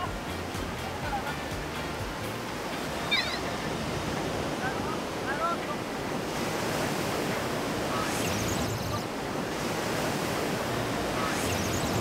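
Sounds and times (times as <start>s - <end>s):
ocean surf breaking: 2.0s - 12.0s.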